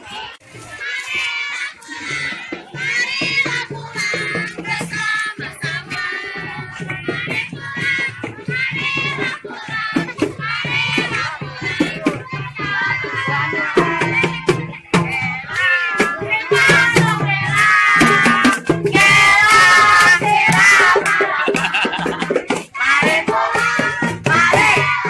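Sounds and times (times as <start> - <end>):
children singing: 0.0 - 25.0.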